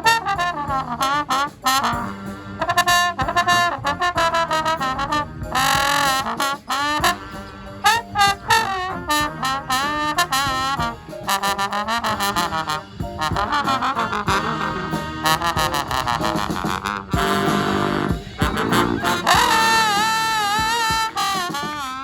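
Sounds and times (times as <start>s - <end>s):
brass band playing: 0.0s - 22.0s
percussion hits: 0.0s - 22.0s.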